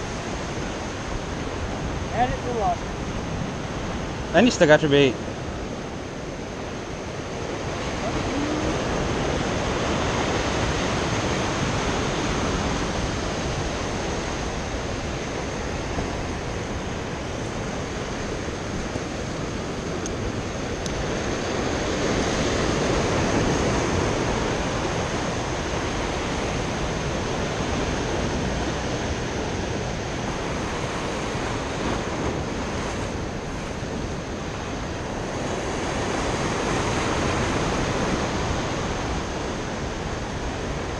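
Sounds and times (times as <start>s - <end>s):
ocean surf on rocks: 0.0s - 40.9s
wind on microphone: 5.2s - 40.9s.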